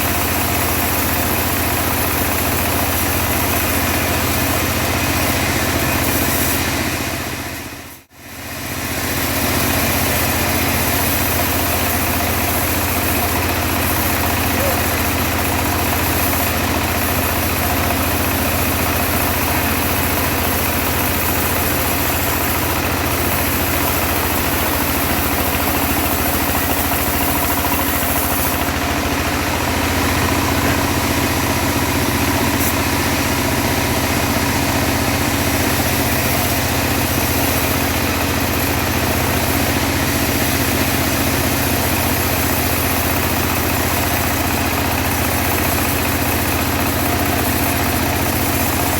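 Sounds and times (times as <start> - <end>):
bandsaw mill engine cutting log: 0.0 - 48.9.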